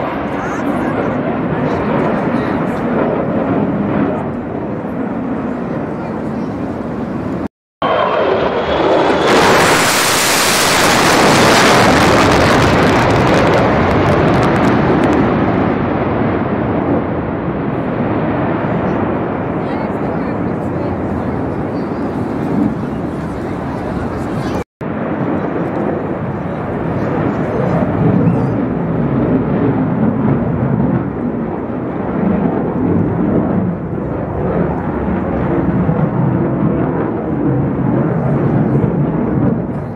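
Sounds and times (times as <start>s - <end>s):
fighter jet roar: 0.0s - 39.9s
jet whine: 0.0s - 39.9s.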